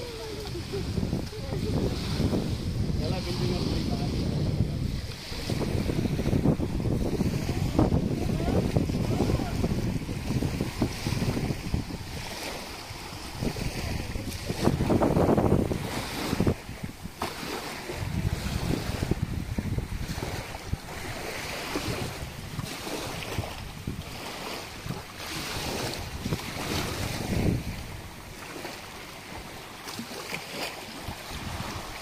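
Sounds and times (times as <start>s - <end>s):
small waves washing over sand: 0.0s - 32.0s
wind on microphone: 0.0s - 32.0s.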